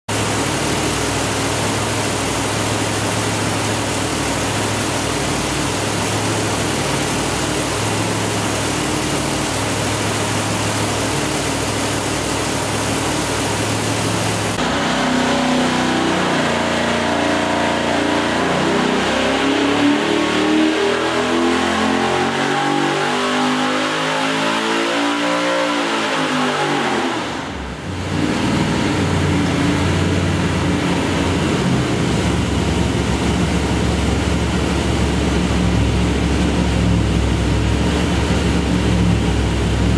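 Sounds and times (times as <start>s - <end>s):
engine idling: 0.1s - 19.9s, 27.5s - 39.9s
engine revving up: 0.5s - 39.9s.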